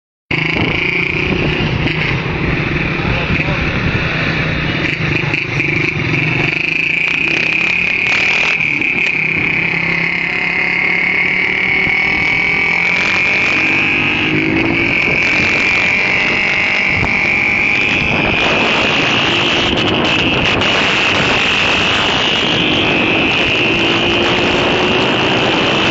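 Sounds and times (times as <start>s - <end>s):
motorcycle engines whining: 0.3s - 25.9s.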